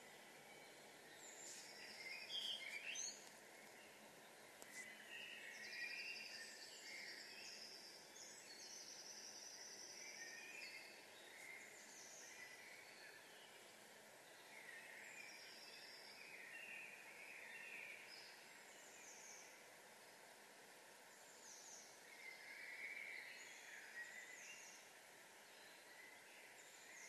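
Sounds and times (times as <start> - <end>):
songbirds trilling: 0.0 - 27.0.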